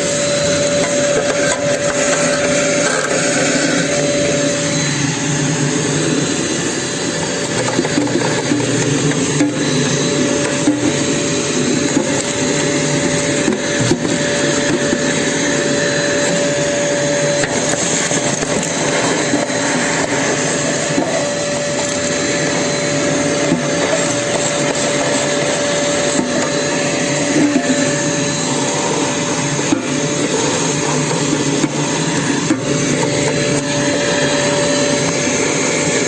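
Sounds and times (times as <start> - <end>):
vacuum cleaner motor whine: 0.0 - 36.0.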